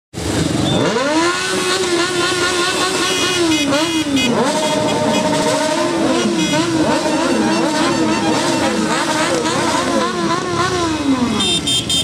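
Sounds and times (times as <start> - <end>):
motorcycle engines revving: 0.2 - 12.0.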